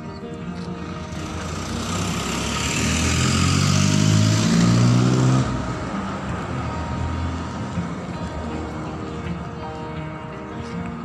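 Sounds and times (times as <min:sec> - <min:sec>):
road noise hiss: 0:00.0 - 0:11.0
vehicle engine running: 0:00.0 - 0:11.0.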